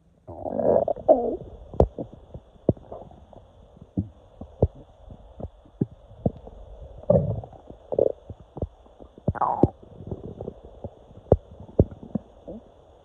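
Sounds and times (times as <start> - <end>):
stomach gurgling: 0.3 - 13.0.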